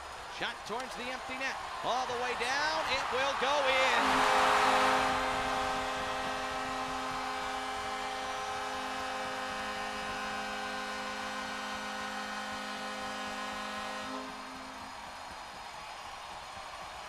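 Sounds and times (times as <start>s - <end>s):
crowd cheering: 0.0s - 17.0s
arena goal horn blast: 0.8s - 15.2s.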